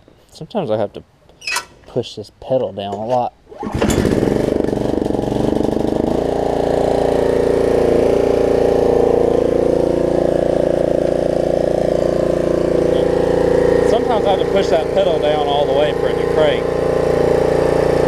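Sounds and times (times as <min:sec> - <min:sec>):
riding mower engine running: 0:03.5 - 0:18.0.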